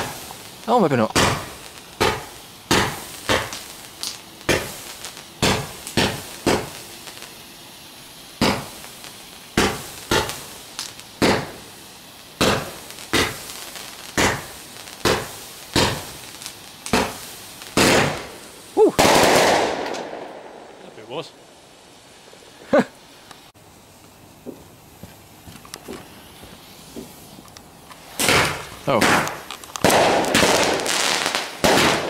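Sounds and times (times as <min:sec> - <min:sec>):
firework sharp pops: 0:00.0 - 0:21.3, 0:23.2 - 0:32.0.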